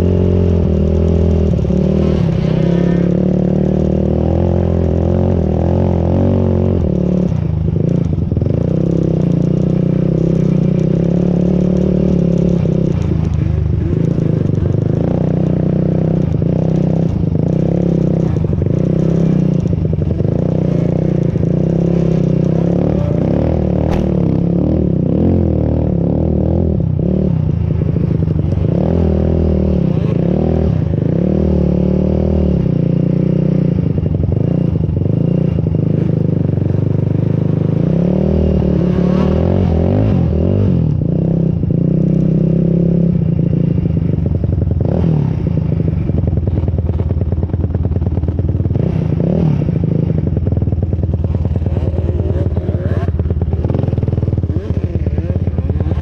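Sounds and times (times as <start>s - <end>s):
quad engine revving: 0.0s - 46.1s, 48.7s - 56.0s.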